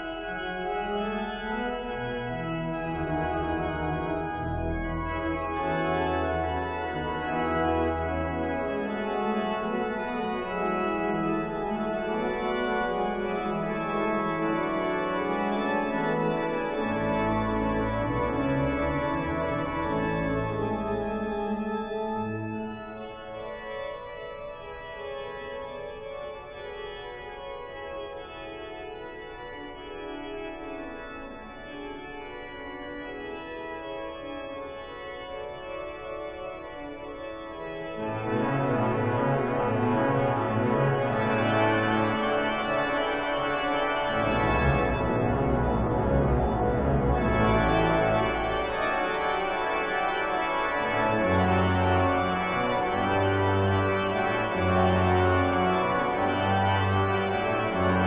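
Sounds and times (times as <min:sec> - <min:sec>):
pipe organ chords: 0:00.0 - 0:58.0
deep organ pedal bass notes: 0:00.1 - 0:27.5, 0:34.6 - 0:58.0.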